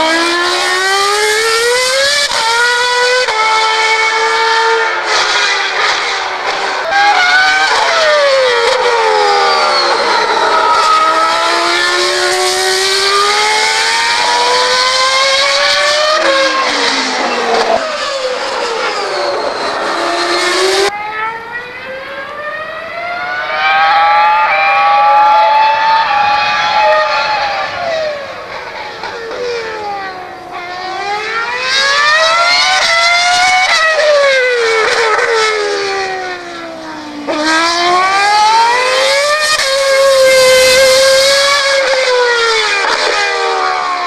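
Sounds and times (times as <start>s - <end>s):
racing car engine at high revs: 0.0s - 44.0s.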